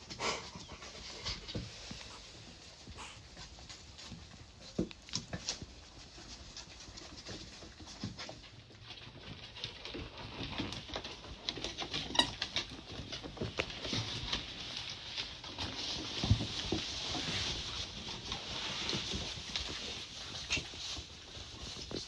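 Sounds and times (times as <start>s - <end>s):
puppy claws pattering on wood: 0.0s - 22.0s.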